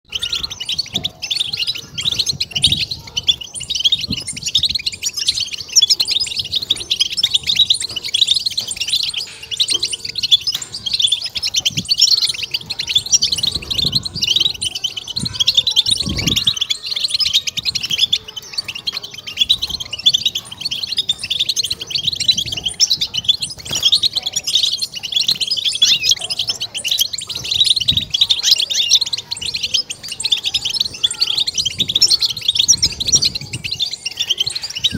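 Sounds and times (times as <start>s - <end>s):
finch twittering song: 0.0s - 34.9s.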